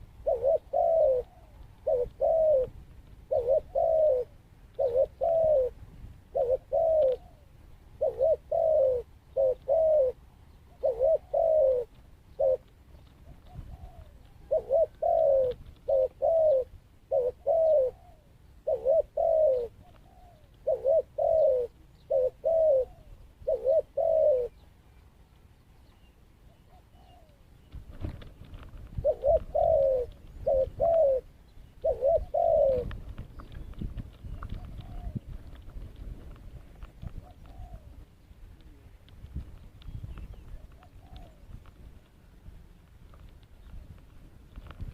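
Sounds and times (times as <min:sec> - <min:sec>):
dove cooing: 0:00.0 - 0:24.7, 0:26.0 - 0:28.2, 0:28.8 - 0:35.7, 0:36.6 - 0:39.1, 0:39.9 - 0:42.4.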